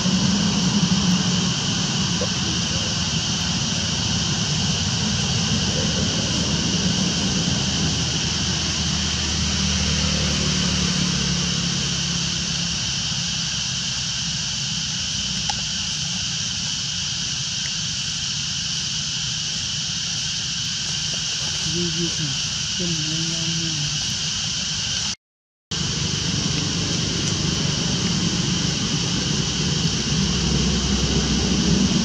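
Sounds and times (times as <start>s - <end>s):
engine drone with high buzz: 0.0s - 32.0s.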